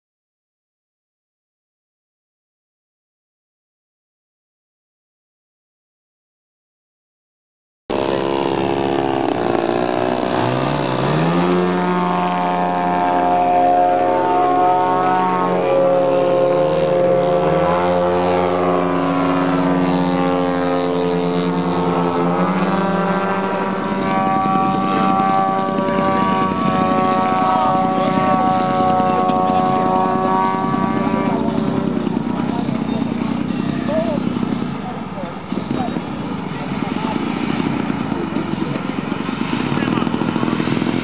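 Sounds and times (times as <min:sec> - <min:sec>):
model airplane engine buzzing: 0:07.9 - 0:41.0.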